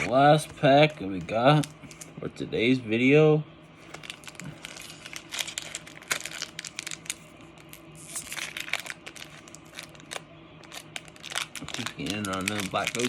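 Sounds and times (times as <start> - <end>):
foil pack crinkling and tearing: 0.8 - 2.1, 3.8 - 13.0.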